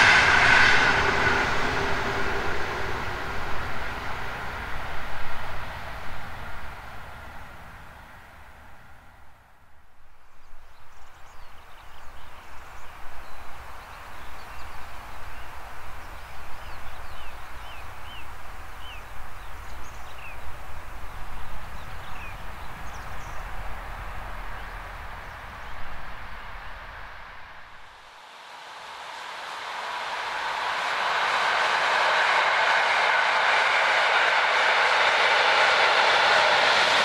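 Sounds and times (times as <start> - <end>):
distant train rumbling: 0.0 - 37.0.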